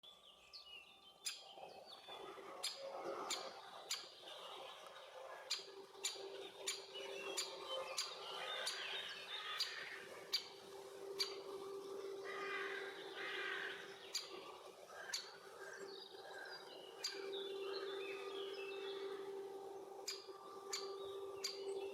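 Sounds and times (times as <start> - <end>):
songbird chirping: 0.0 - 21.9
steady low hum: 1.6 - 21.9.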